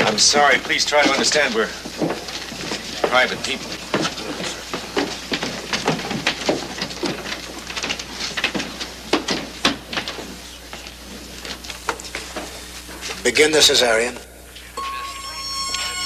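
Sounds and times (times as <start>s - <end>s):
knocks and scuffs: 0.0s - 13.2s
footsteps and shuffling: 0.0s - 13.5s.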